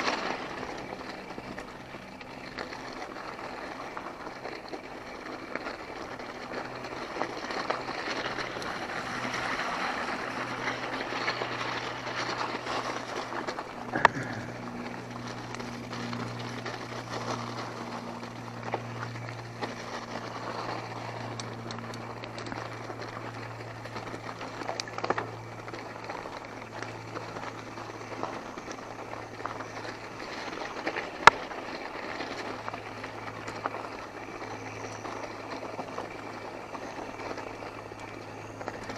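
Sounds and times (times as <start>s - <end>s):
bike clicks and rattles: 0.0s - 38.9s
bike tyres rolling on dirt: 0.0s - 38.9s.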